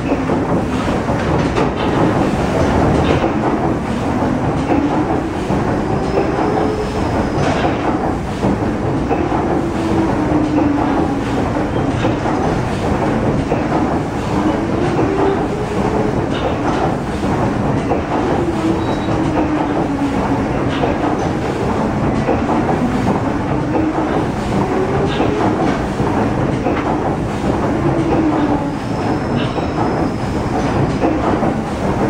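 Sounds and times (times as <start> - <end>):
steam engine running: 0.0 - 32.0.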